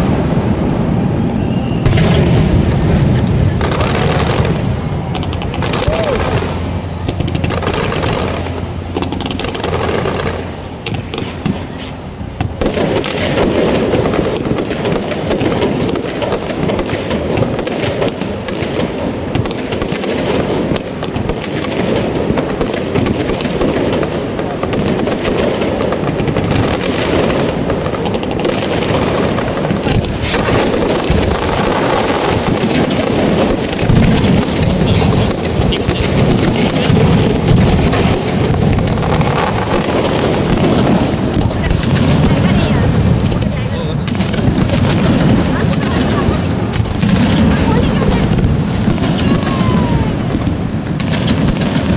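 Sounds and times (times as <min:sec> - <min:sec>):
fireworks crackling and banging: 0:00.0 - 0:51.9.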